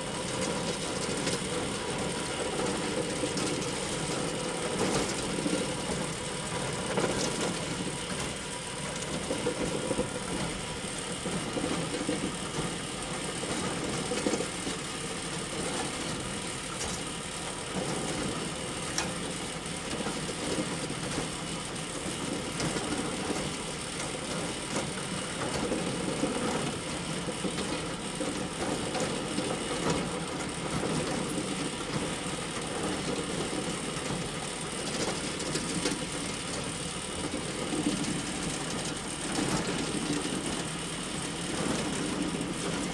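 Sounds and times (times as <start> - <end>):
conveyor mechanical clatter: 0.0 - 42.9.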